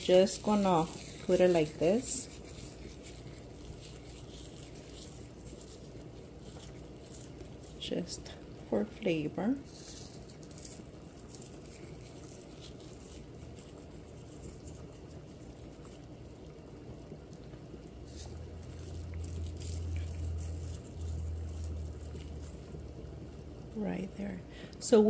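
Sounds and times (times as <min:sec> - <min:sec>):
broth boiling in a pot: 0:00.0 - 0:25.0.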